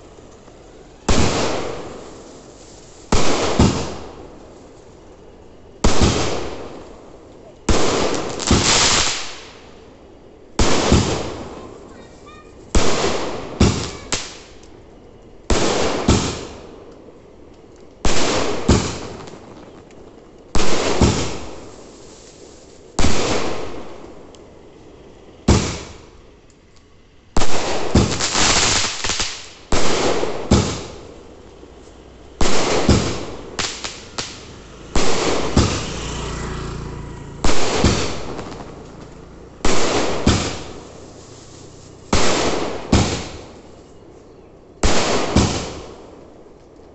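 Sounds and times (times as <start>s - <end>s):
fireworks bursting with bangs: 0.0s - 26.2s, 27.3s - 44.1s, 44.8s - 46.8s
fireworks crackling pops: 0.0s - 46.9s.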